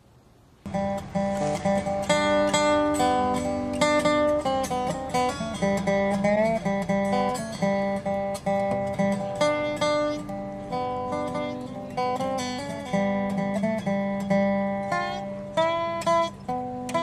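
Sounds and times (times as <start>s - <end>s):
acoustic guitar picking: 0.6s - 17.0s.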